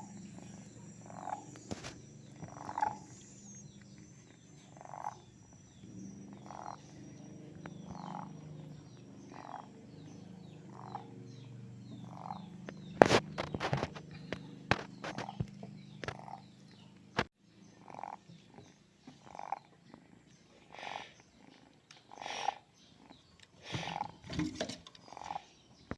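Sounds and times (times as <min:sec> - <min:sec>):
kitten purring: 0:00.0 - 0:17.0, 0:17.8 - 0:24.2.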